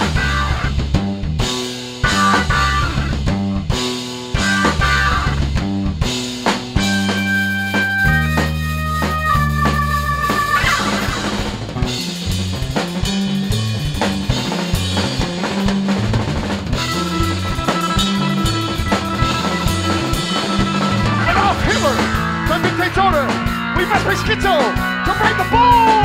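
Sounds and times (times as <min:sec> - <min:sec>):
drum kit playing: 0:00.0 - 0:26.0
electric bass line: 0:00.0 - 0:26.0.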